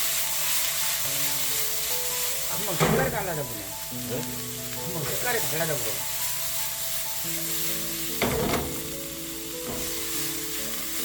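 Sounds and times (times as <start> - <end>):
background music of held notes: 0.0 - 11.0
food sizzling in a pan: 0.0 - 11.0.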